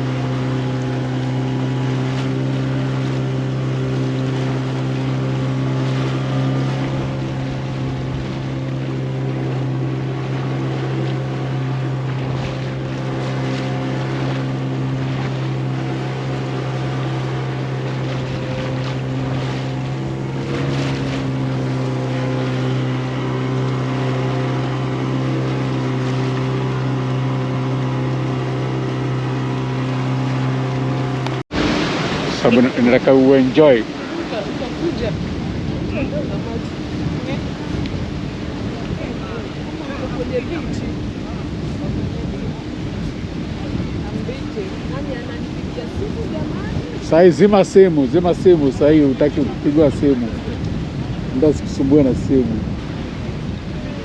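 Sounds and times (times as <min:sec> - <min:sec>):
motorboat engine droning: 0:00.0 - 0:54.0.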